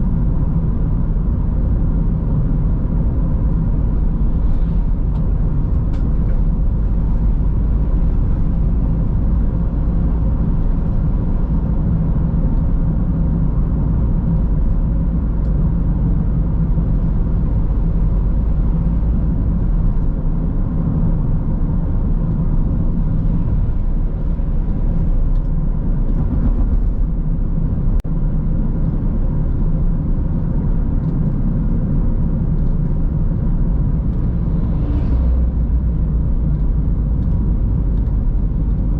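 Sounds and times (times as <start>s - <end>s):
tyres and engine rumble: 0.0s - 38.9s.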